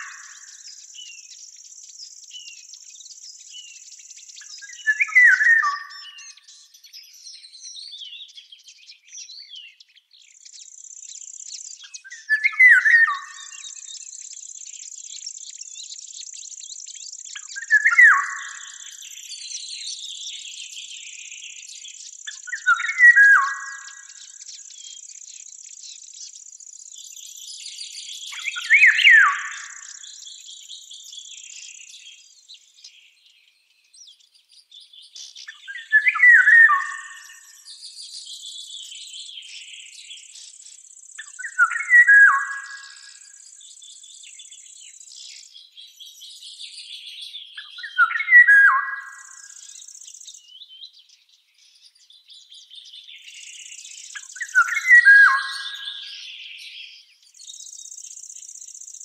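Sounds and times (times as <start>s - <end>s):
soft bird chirps: 0.0s - 59.0s
songbird singing whistled notes: 0.0s - 59.0s.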